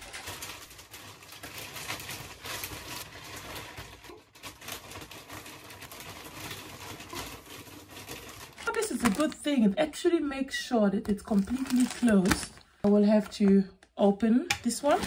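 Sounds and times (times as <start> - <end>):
plastic bag crinkling: 0.0 - 9.8, 11.1 - 13.5, 14.7 - 15.0.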